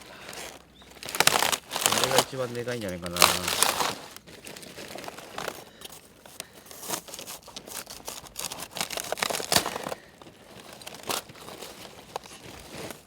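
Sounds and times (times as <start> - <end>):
cabbage leaves rustling and crackling: 0.0 - 13.0.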